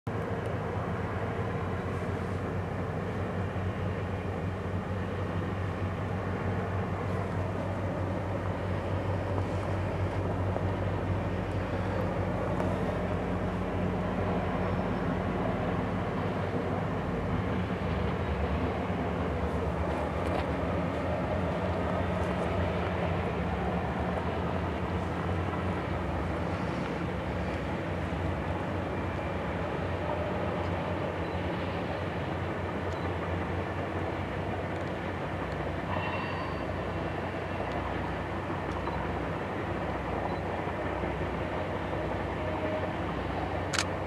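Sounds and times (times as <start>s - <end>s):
diesel locomotive engine drone: 0.1s - 44.0s
train coaches passing: 0.1s - 44.0s.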